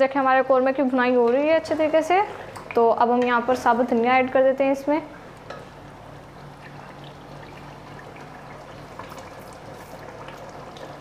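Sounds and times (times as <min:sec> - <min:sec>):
low steady hum: 0:00.0 - 0:11.0
food bubbling and sizzling in pot: 0:00.7 - 0:11.0.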